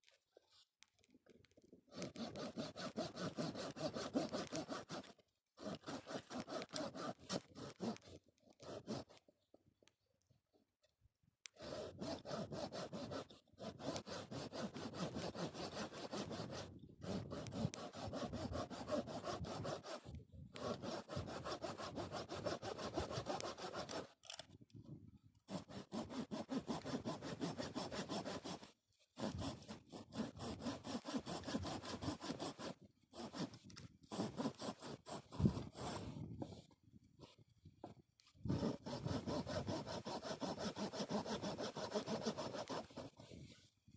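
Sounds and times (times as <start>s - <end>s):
hand saw cutting wood: 1.9s - 9.3s, 11.5s - 24.4s, 25.5s - 43.6s.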